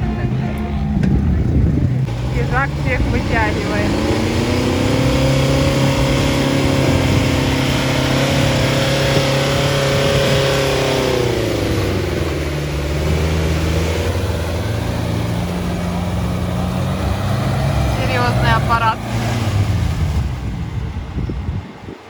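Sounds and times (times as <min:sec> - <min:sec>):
off-road vehicle engine revving: 0:00.0 - 0:21.7.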